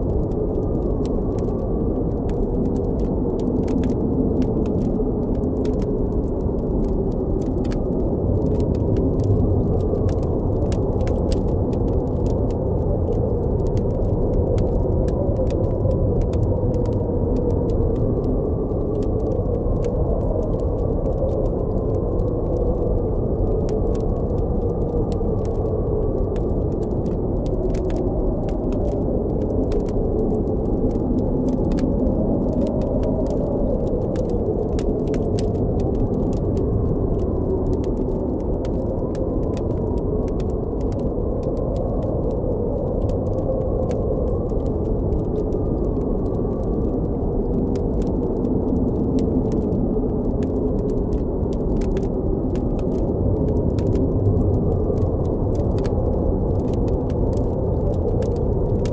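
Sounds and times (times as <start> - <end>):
blizzard wind howling: 0.0 - 58.9
campfire crackling and popping: 0.0 - 58.9.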